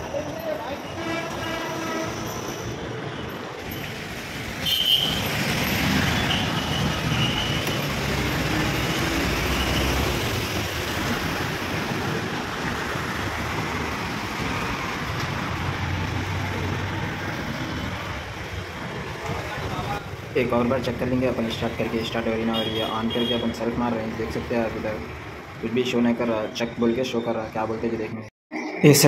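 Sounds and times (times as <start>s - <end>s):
passing vehicles: 0.0s - 29.0s.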